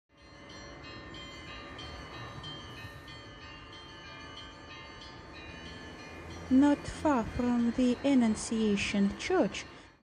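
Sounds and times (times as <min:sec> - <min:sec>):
lower bell tones ringing: 0:00.1 - 0:10.0
small high church bells: 0:00.1 - 0:10.0.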